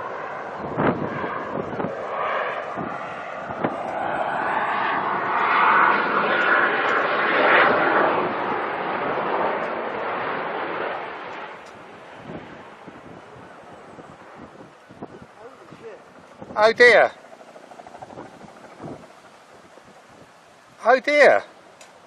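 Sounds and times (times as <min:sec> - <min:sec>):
jet aircraft flying past: 0:00.0 - 0:22.0.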